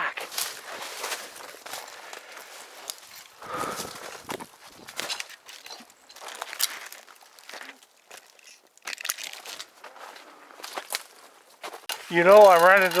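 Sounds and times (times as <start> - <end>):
footsteps through dry leaves: 0.0 - 13.0
twigs snapping: 0.0 - 13.0.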